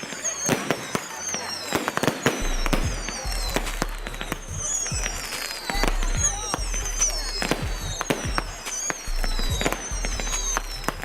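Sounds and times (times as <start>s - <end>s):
firework bangs and crackles: 0.0s - 11.0s
whistling fireworks: 0.0s - 11.0s.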